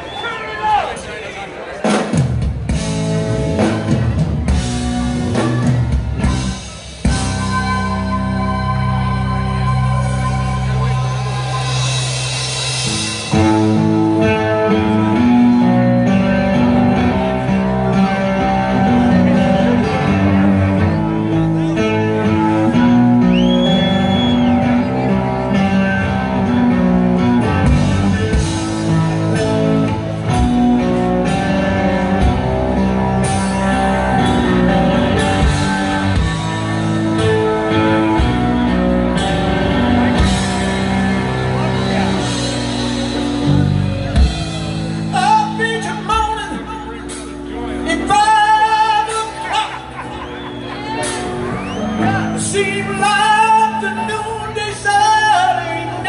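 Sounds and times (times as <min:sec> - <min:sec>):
live rock band playing: 0:00.0 - 0:56.0
electric guitar: 0:01.9 - 0:56.0.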